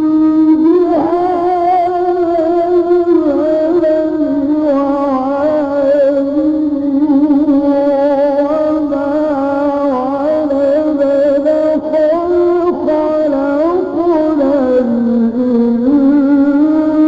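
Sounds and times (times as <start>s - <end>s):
man reciting in long melismatic chant: 0.0s - 17.0s.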